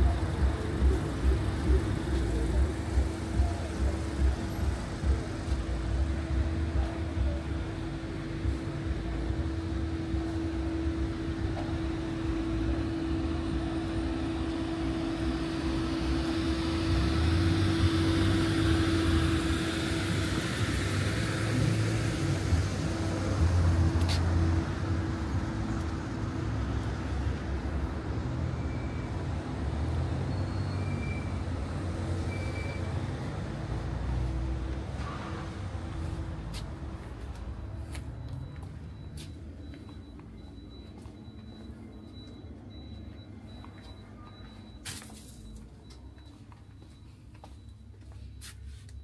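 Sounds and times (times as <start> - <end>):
road traffic passing: 0.0 - 49.0.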